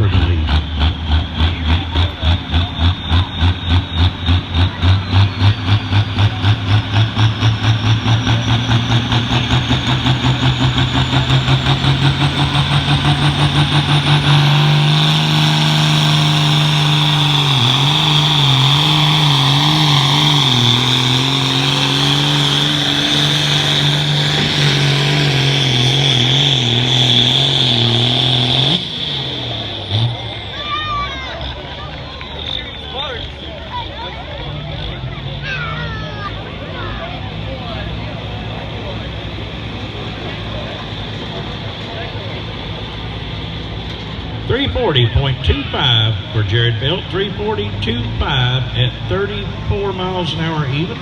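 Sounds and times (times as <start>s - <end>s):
tractor diesel engine at full power: 0.0s - 51.0s.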